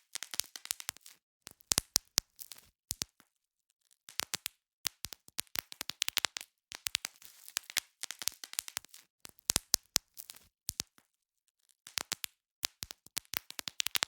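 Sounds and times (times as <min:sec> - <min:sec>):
bubble wrap popping: 0:00.0 - 0:03.2, 0:04.1 - 0:11.0, 0:11.9 - 0:14.0.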